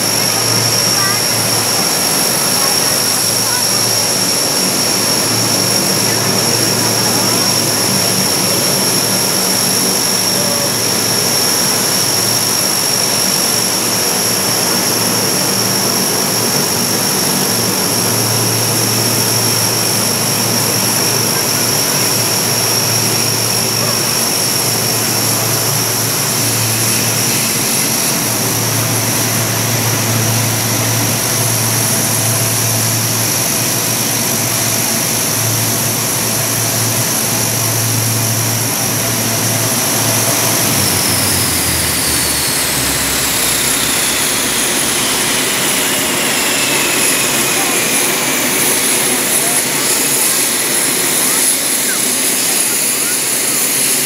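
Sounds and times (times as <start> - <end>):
aircraft engines whine and drone: 0.0 - 54.0.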